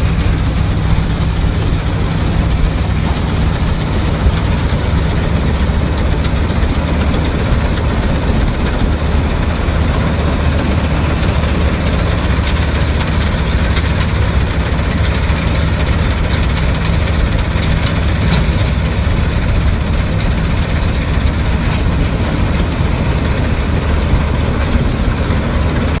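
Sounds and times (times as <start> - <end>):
combine harvester diesel engine drone: 0.0 - 26.0.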